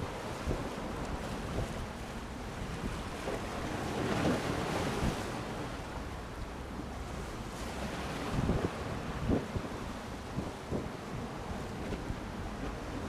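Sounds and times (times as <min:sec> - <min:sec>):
steady rushing wind noise: 0:00.0 - 0:13.0
wind buffeting microphone: 0:00.0 - 0:13.0.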